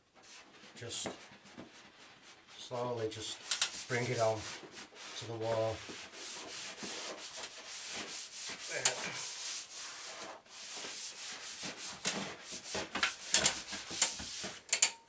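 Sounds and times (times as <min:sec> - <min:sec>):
wall liner rubbing and rustling: 0:00.0 - 0:14.7.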